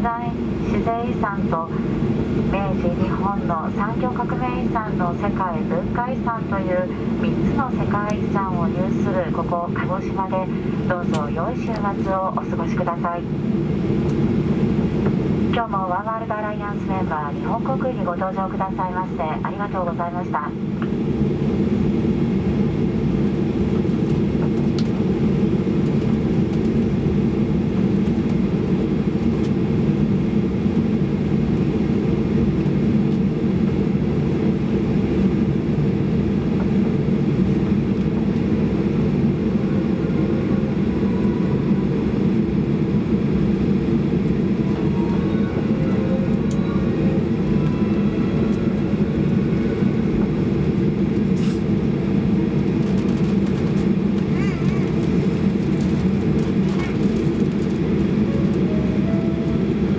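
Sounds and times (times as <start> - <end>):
aircraft cabin engine hum: 0.0 - 59.9.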